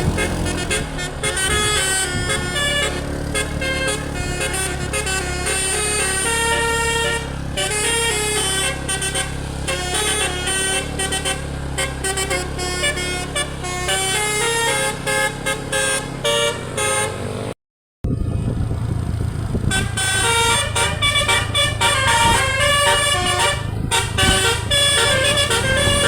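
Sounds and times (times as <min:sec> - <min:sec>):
musical air horn melody: 0:00.0 - 0:17.6, 0:19.7 - 0:26.0
low engine hum: 0:00.0 - 0:26.0.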